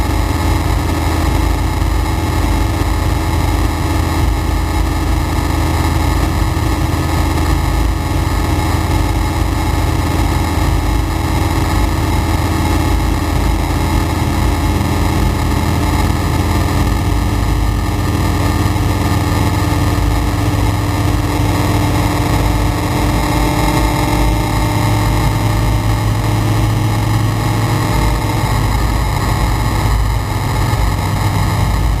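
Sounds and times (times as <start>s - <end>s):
aircraft engine drone: 0.0s - 32.0s
rushing airflow: 0.0s - 32.0s.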